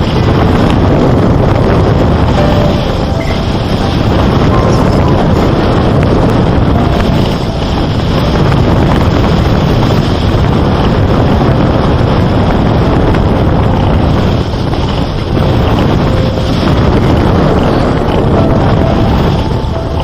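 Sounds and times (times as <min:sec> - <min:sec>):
loud rushing noise: 0:00.0 - 0:20.0.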